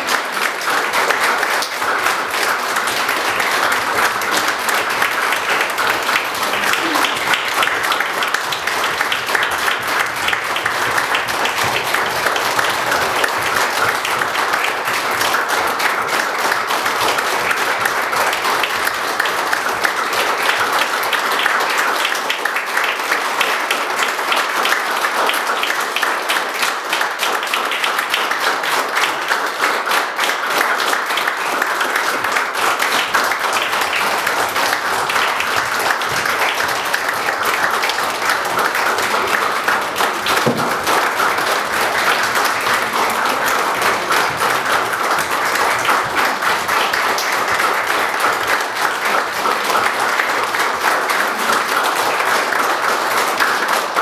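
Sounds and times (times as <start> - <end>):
audience applauding: 0.0 - 54.0.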